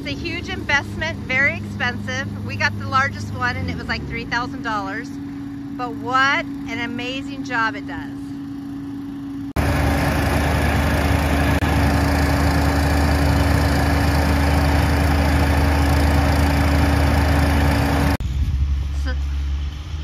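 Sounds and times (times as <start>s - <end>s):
impeller fan rushing: 0.0s - 20.0s
leaf vacuum engine drone: 0.0s - 20.0s.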